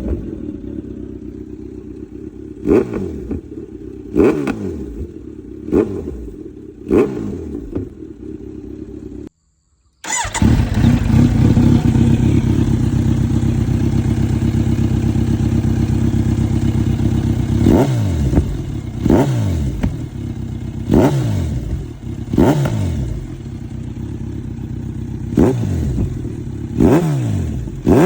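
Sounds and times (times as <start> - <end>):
motorcycle engine idling: 0.0 - 9.3, 10.0 - 28.0
motorcycle engine revving: 0.0 - 9.3, 10.0 - 28.0.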